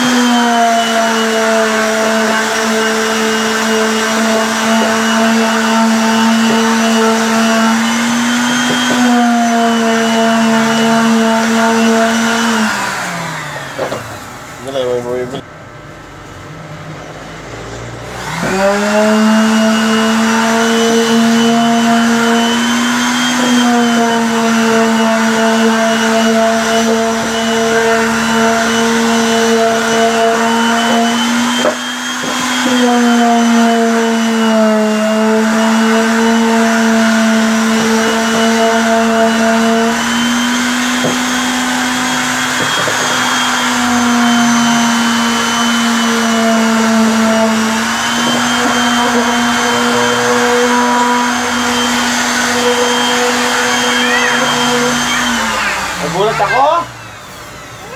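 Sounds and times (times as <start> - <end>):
electric sander sanding wood: 0.0 - 15.4, 17.9 - 57.9.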